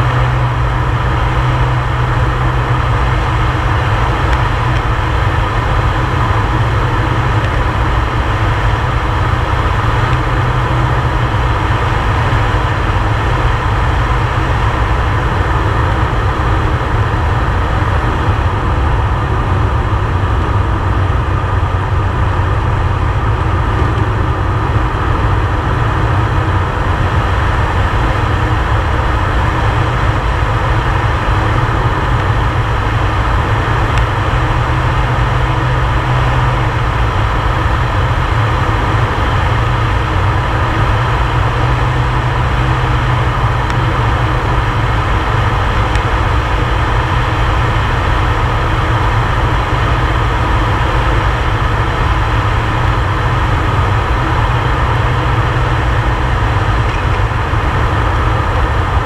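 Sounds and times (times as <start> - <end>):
aircraft engine rumble in cockpit: 0.0 - 59.0.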